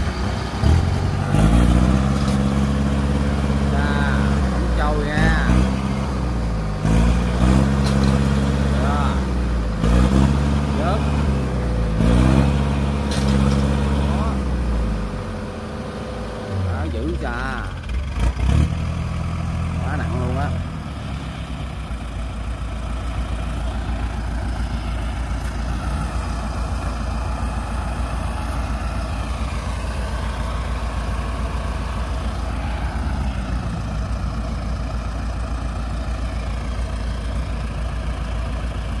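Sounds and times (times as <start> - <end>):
diesel engines rumbling: 0.0 - 39.0.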